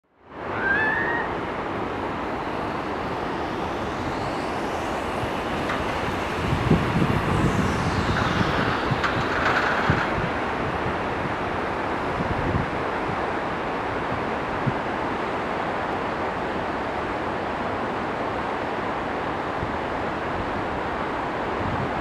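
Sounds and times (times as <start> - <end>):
faint whine: 0.0 - 21.5
wind rushing on microphone: 0.3 - 22.0.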